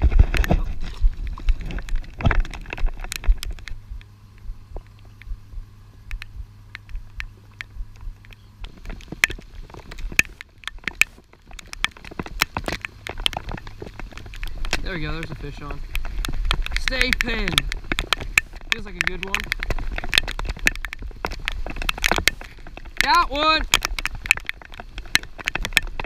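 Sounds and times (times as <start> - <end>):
raindrops ticking on plastic housing: 0.0 - 26.0
wind rumbling on microphone: 0.0 - 26.0.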